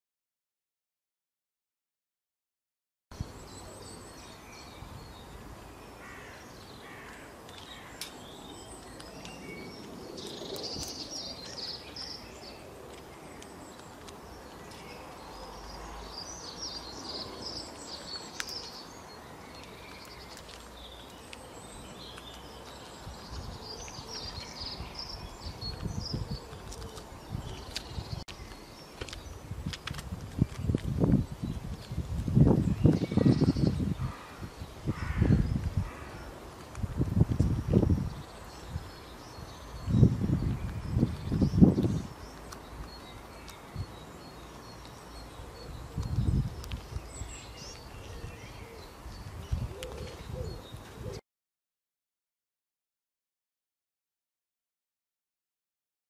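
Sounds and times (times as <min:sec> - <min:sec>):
small birds chirping: 0:03.1 - 0:51.2.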